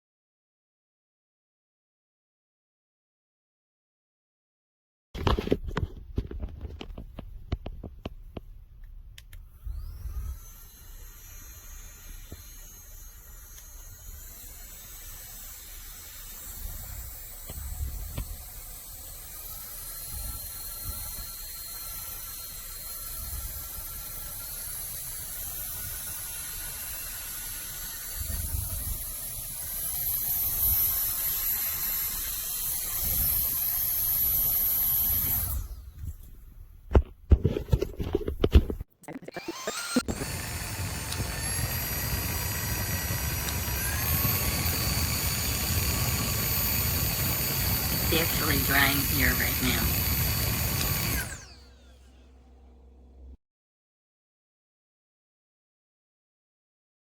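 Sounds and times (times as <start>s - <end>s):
handheld fan motor whine: 5.2s - 53.4s.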